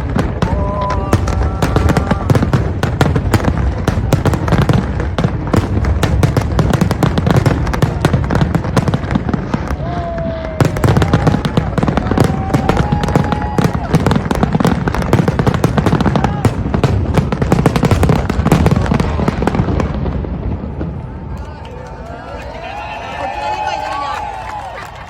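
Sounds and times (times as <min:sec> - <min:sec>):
fireworks cracking and banging: 0:00.0 - 0:25.0.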